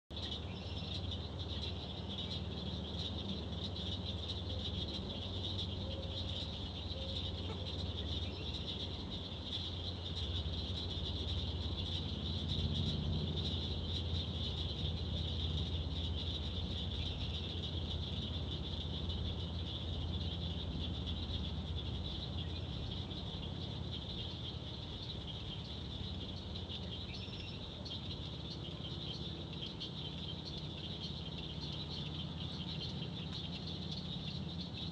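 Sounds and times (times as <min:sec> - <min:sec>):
chorus of calling frogs: 0:00.1 - 0:34.9
low steady hum: 0:00.1 - 0:34.9.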